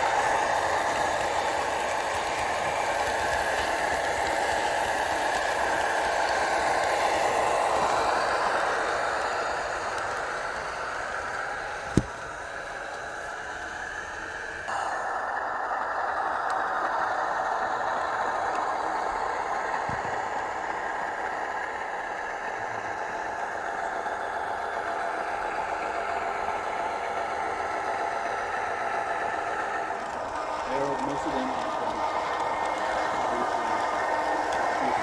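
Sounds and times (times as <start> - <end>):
train rattling rumble: 0.0 - 35.0.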